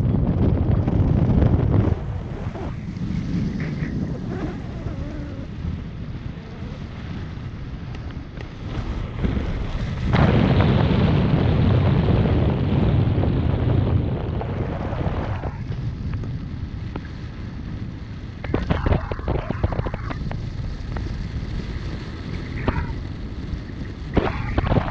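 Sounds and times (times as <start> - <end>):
wind roar over microphone: 0.0 - 24.9.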